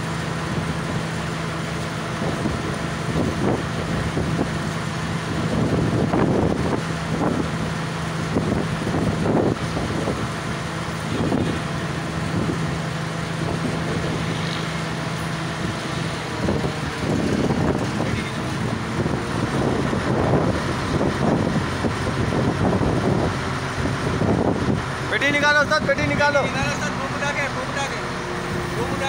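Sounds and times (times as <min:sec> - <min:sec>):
crane diesel engine running: 0:00.0 - 0:29.0.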